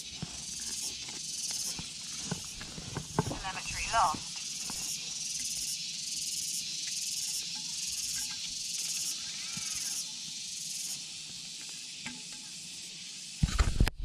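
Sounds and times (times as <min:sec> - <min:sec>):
insects buzzing: 0:00.0 - 0:13.8.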